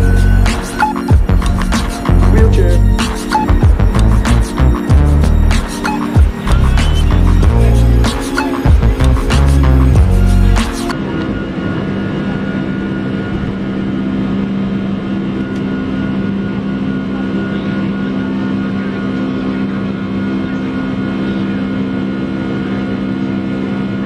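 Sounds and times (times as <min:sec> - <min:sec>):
aircraft engines droning in cabin: 0:00.0 - 0:24.0.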